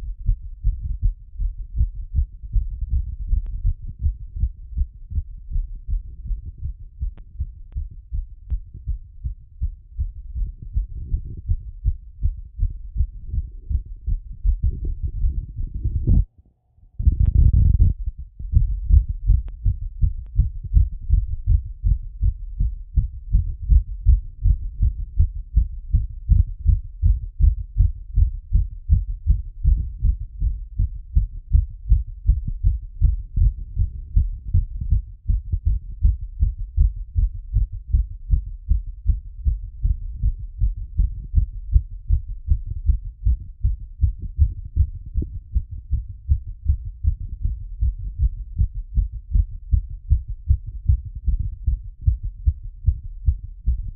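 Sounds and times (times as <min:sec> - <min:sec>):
heartbeat through stethoscope: 0:00.0 - 0:16.3, 0:17.0 - 0:53.9.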